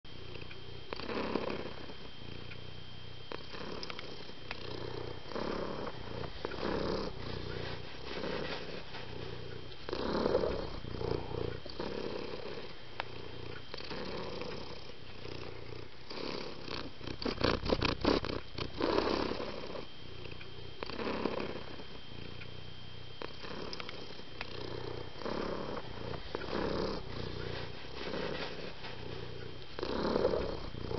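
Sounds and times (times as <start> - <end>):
cat purring: 0.1 - 30.9.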